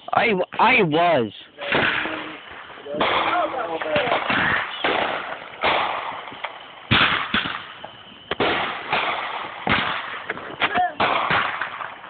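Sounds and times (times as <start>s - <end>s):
fireworks bangs: 1.6s - 12.0s.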